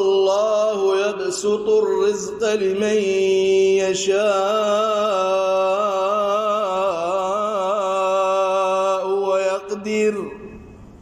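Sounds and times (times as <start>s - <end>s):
man reciting melodically: 0.0s - 10.6s.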